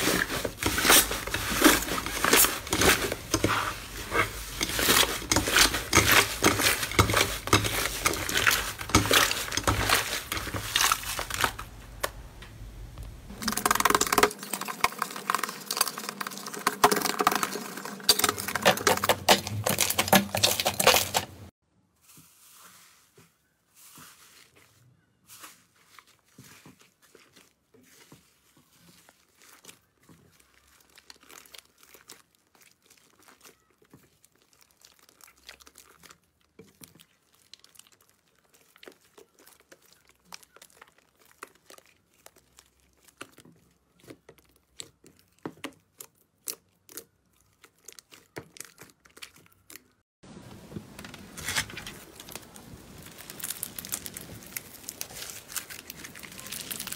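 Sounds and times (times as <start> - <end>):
slime crackling and popping: 0.0 - 12.4, 13.0 - 21.4, 29.1 - 50.0, 51.4 - 56.9.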